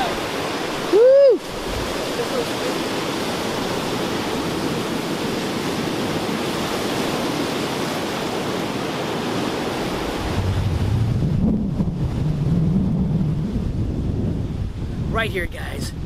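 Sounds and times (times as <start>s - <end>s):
surf breaking over rocks: 0.0s - 16.0s.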